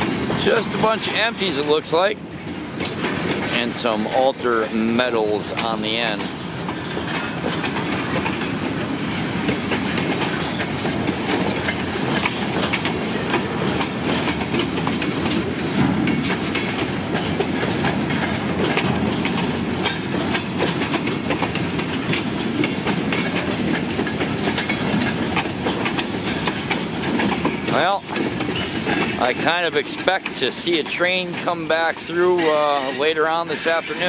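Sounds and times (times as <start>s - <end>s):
steel wheels rumbling: 0.0s - 34.0s
wheels clacking over rail joints: 0.0s - 34.0s.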